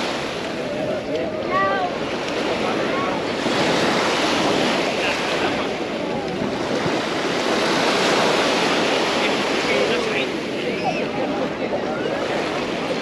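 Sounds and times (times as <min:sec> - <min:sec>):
sea waves washing onto beach: 0:00.0 - 0:13.0
wind on microphone: 0:00.0 - 0:13.0.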